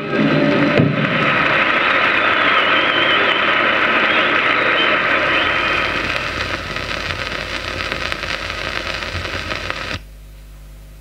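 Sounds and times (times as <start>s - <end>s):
low playback hum: 0.0s - 11.0s
record crackle and hiss: 0.0s - 11.0s.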